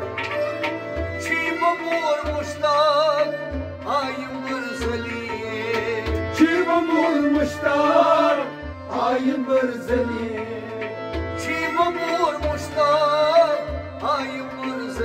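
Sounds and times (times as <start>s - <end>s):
sustained harmonium: 0.0s - 15.0s
man singing: 1.2s - 15.0s.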